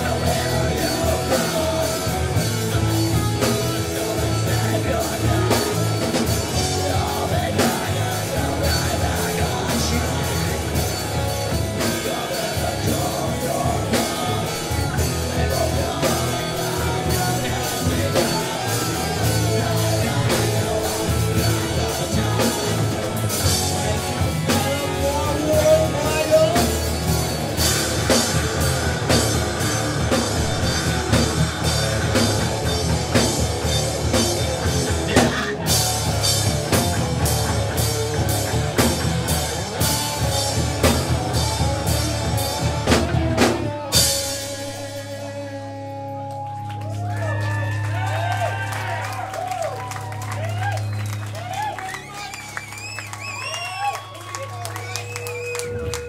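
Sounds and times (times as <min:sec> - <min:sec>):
metal band playing live: 0:00.0 - 0:56.0.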